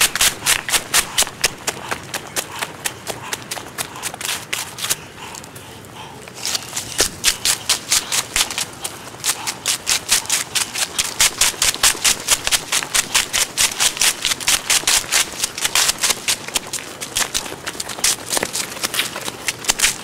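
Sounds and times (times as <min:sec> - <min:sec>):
running footsteps on leaves: 0:00.0 - 0:20.0.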